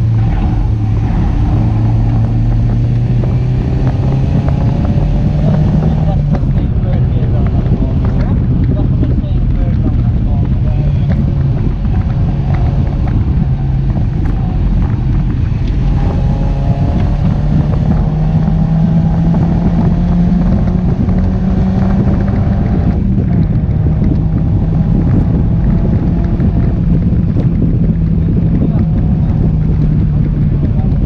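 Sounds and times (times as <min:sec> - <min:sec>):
car engine accelerating: 0:00.0 - 0:31.0
wind rushing past: 0:00.0 - 0:31.0.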